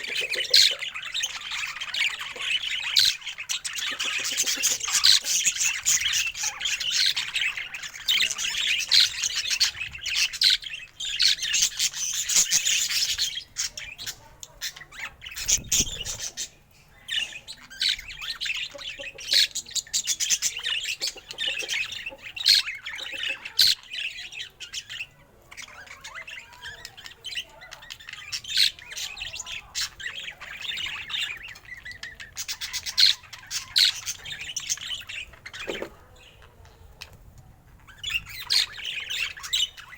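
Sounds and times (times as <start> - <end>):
budgerigar chattering: 0.0 - 36.4.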